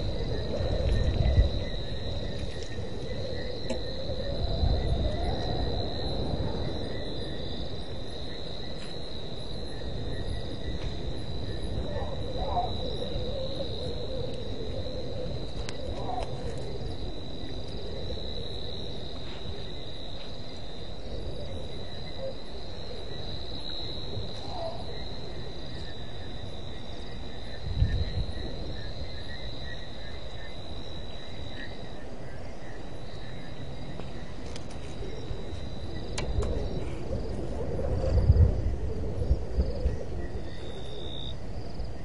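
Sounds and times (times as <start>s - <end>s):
night insects trilling: 0.0s - 42.0s.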